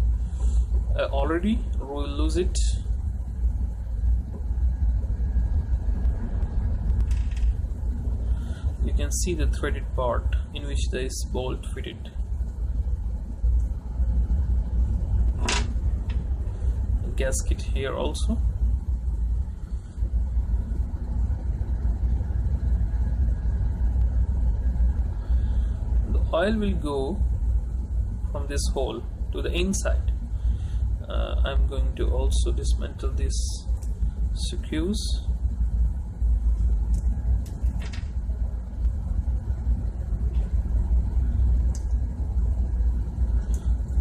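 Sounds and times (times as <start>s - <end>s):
ship machinery rumbling: 0.0s - 44.0s.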